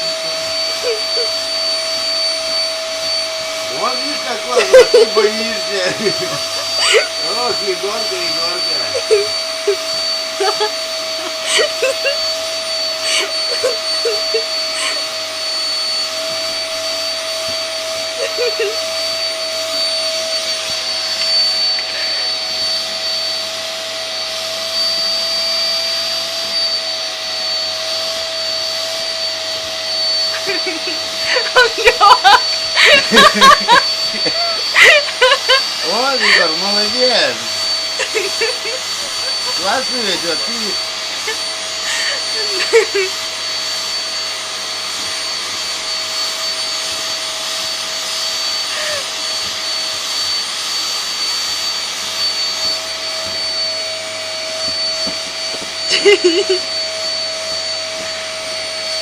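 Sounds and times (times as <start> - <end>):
vacuum cleaner whining: 0.0 - 59.0.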